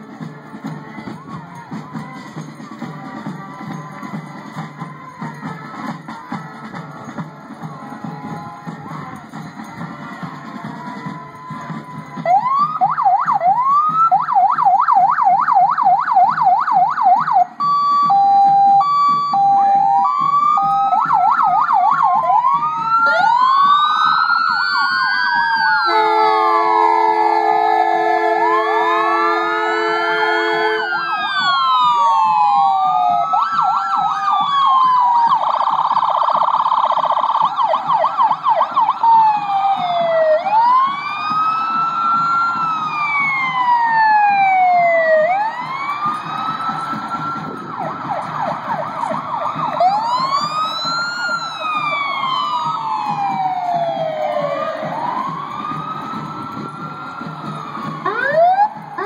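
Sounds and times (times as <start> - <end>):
emergency vehicle sirens: 0.0 - 59.0.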